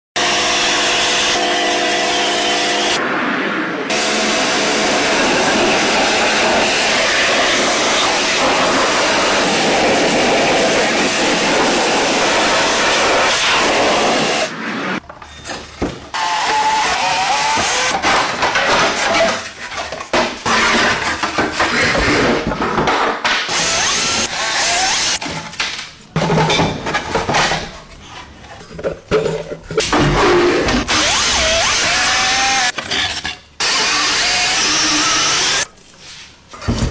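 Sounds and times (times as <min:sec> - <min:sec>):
steady dense tool noise: 0:00.2 - 0:36.9.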